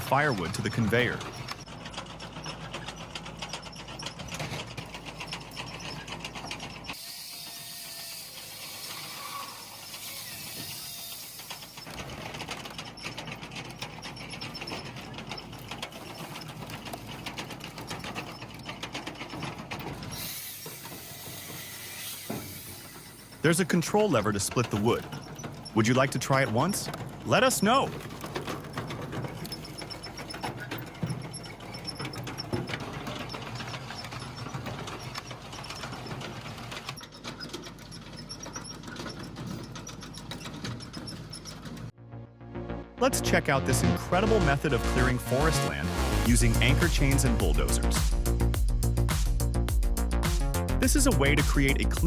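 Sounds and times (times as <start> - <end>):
firewood processor clattering: 0.0 - 42.0, 44.2 - 52.0.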